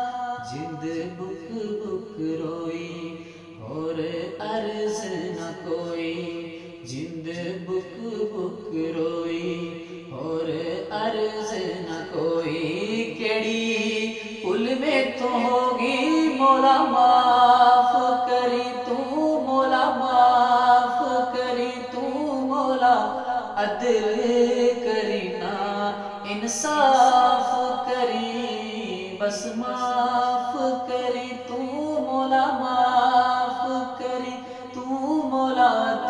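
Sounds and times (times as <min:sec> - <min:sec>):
man singing devotional song: 0:00.0 - 0:36.0.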